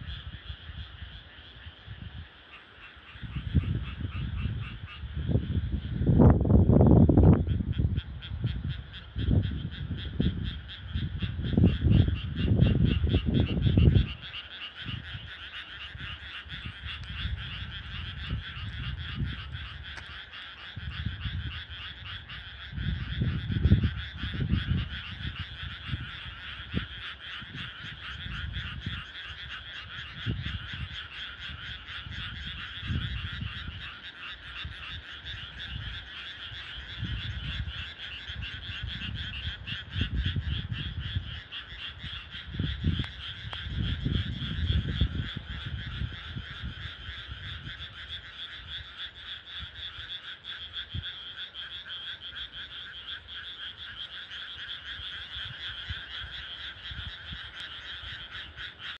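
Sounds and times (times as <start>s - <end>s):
frogs croaking: 0.0s - 59.0s.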